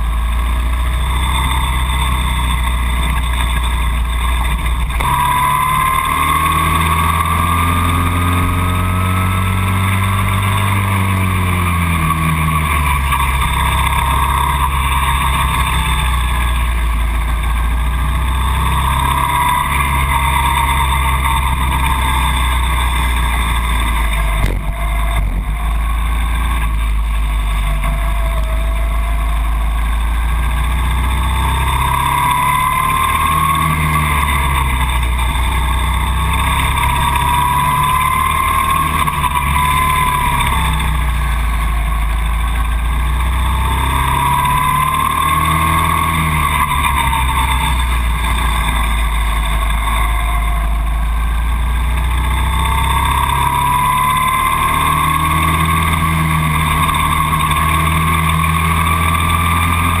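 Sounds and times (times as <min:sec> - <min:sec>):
go-kart engine accelerating: 0:00.0 - 1:00.0.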